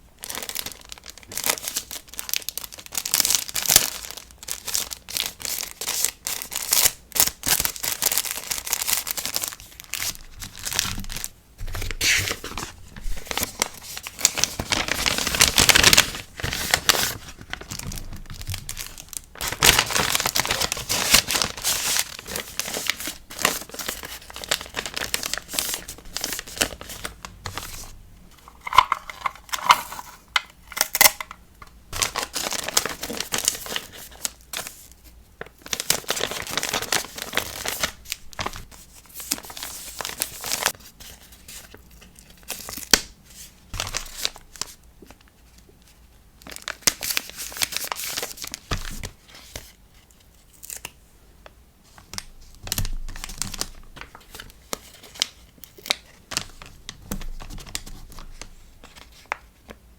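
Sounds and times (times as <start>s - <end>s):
paper and plastic crinkling: 0.2s - 51.0s, 51.9s - 59.8s.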